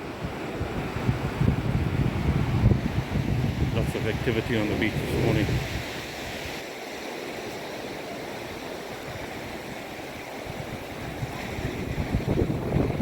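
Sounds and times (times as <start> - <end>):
wind buffeting microphone: 0.0 - 6.6, 8.4 - 13.0
surf washing on beach: 0.0 - 13.0.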